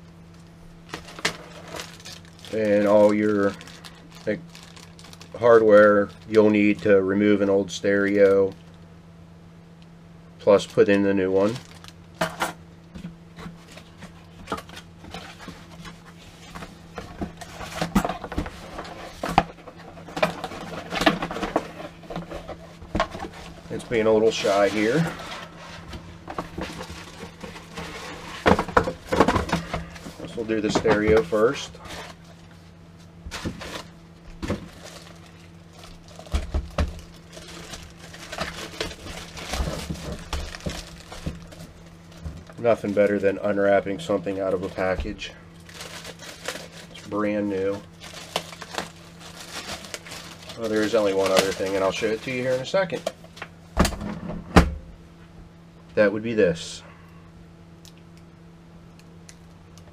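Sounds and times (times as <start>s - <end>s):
cardboard packaging rustling: 0.3s - 8.6s, 10.5s - 12.2s, 13.3s - 53.4s
plastic wrap crinkling: 0.3s - 8.8s, 10.4s - 12.2s, 13.5s - 43.5s, 44.2s - 53.3s.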